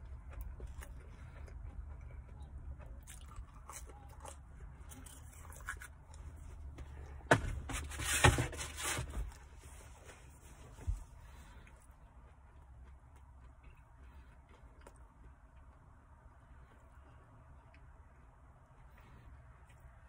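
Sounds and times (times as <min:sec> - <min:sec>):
chewing pizza crust: 0:00.0 - 0:07.2, 0:08.9 - 0:20.0.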